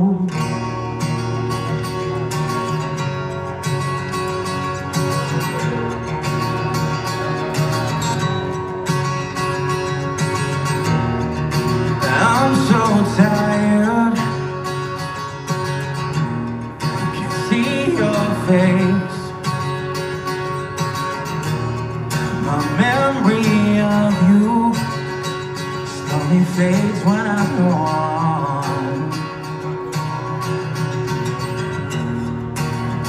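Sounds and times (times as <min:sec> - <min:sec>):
acoustic guitar strumming chords: 0:00.0 - 0:33.0.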